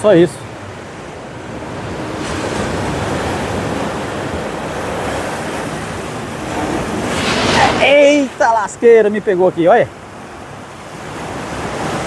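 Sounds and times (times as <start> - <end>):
surf waves breaking: 0.0 - 12.0.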